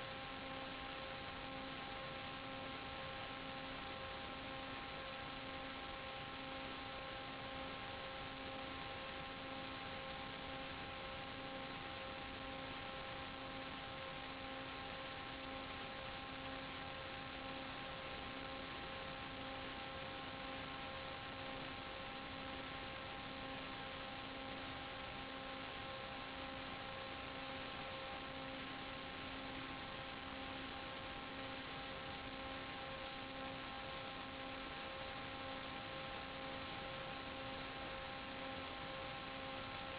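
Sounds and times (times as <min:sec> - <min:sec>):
electrical hum: 0:00.0 - 0:39.9
static hiss: 0:00.0 - 0:39.9.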